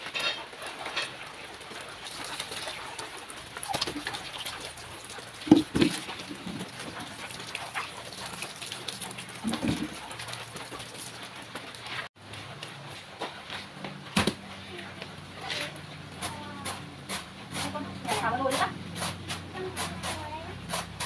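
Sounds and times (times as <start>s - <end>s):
water running onto concrete: 0.0s - 12.8s, 13.9s - 21.0s.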